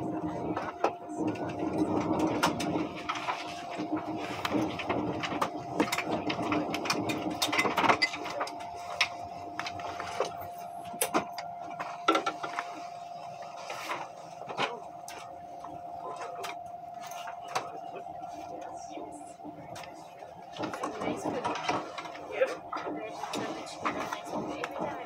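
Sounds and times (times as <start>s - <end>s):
train interior hum: 0.0s - 25.0s.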